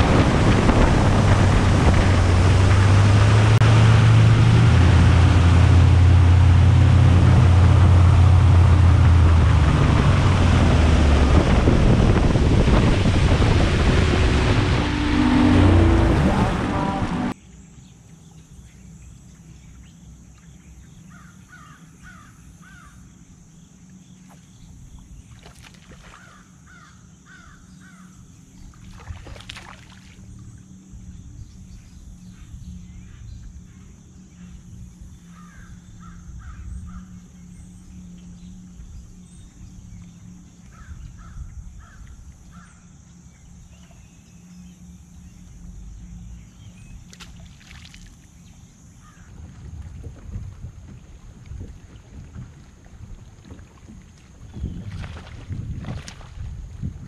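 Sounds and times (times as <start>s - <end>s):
steady low hum: 0.0s - 25.5s, 26.4s - 57.0s.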